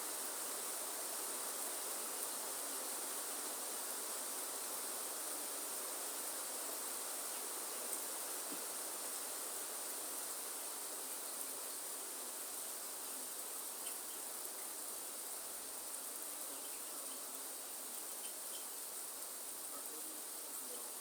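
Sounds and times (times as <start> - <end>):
rain falling: 0.0 - 21.0
high-pitched insect chorus: 0.2 - 21.0.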